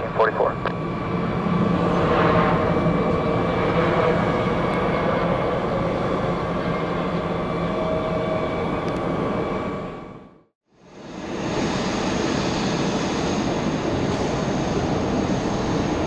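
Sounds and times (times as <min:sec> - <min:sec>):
jet engines running: 0:00.0 - 0:10.4, 0:11.0 - 0:16.0.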